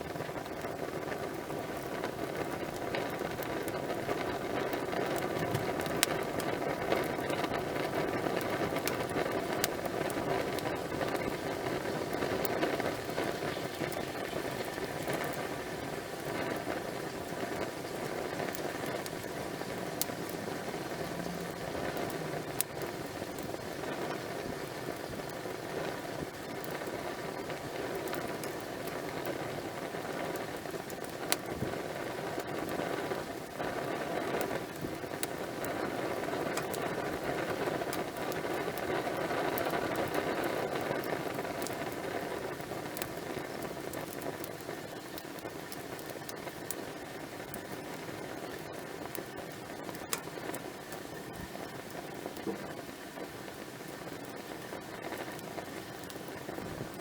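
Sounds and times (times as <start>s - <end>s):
campfire crackling: 0.0s - 57.0s
sharp pops of burning wood: 0.2s - 57.0s.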